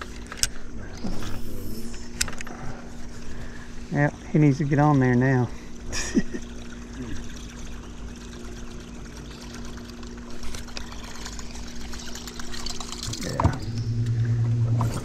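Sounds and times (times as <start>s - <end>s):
steady low hum: 0.0s - 15.0s
water trickling and lapping: 2.5s - 15.0s.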